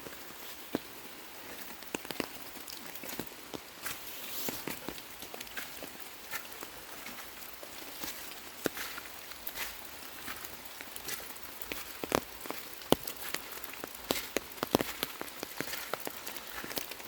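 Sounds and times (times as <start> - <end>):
footsteps through dry leaves: 2.7 - 17.0.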